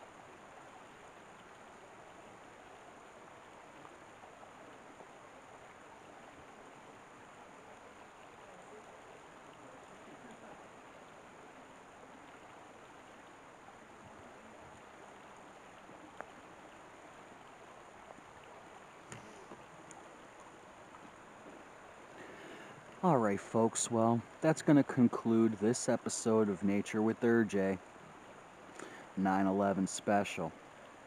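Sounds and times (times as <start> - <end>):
stream running over rocks: 0.0 - 31.0.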